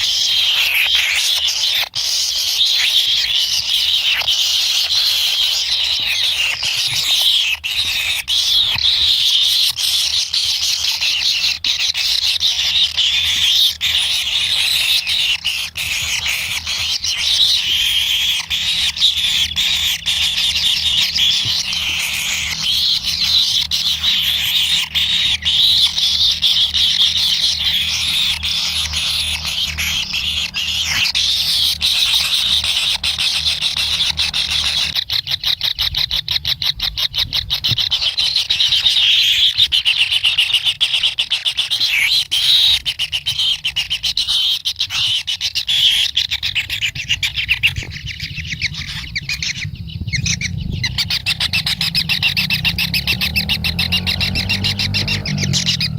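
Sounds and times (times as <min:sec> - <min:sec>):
chicks begging calls: 0:00.0 - 0:55.9.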